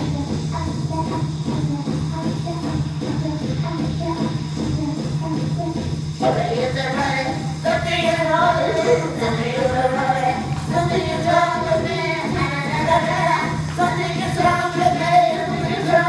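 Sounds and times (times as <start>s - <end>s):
backing music: 0.0s - 16.0s
woman singing into microphone: 0.0s - 16.0s.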